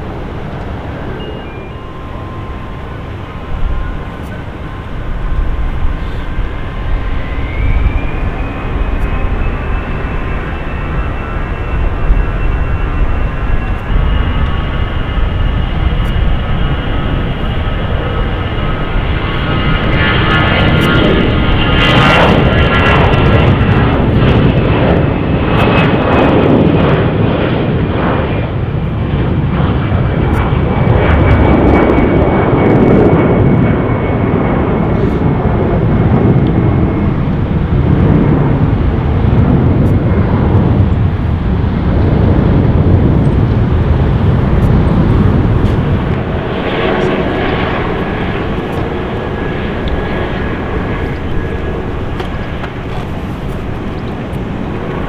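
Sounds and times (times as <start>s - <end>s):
high engine whine: 0.0s - 55.0s
jet engines rumbling: 0.0s - 55.0s.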